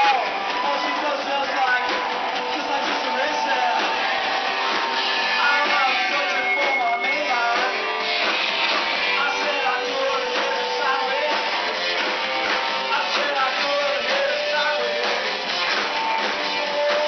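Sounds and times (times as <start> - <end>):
person singing: 0.0 - 8.0, 9.0 - 11.8, 12.4 - 15.5, 16.3 - 17.0
live rock band playing: 0.0 - 17.0.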